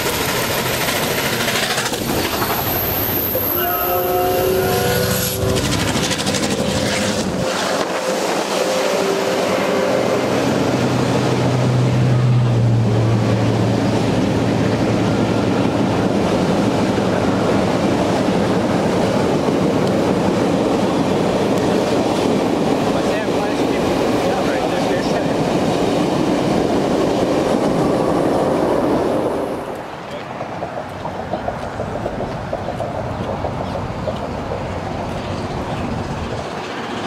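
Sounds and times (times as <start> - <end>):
train cars rumbling and rattling: 0.0 - 37.0.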